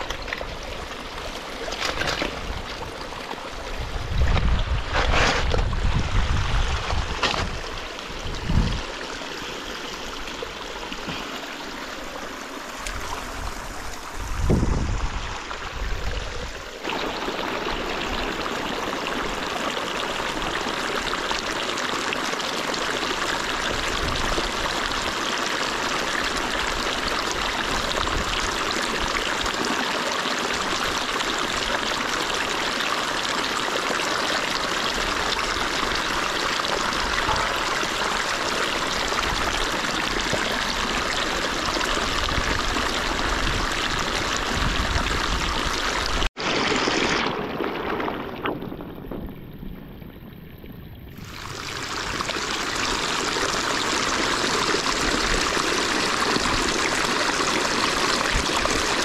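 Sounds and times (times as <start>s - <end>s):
water rushing along a canal: 0.0s - 59.0s.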